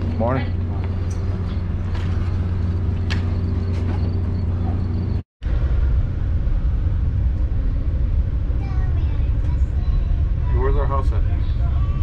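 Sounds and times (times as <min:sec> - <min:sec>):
standing train humming: 0:00.0 - 0:12.0
train running rumble: 0:00.0 - 0:12.0.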